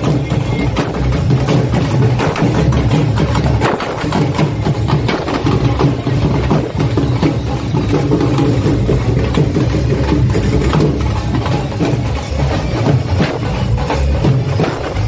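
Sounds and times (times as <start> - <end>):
dhol drums beating: 0.0 - 15.0.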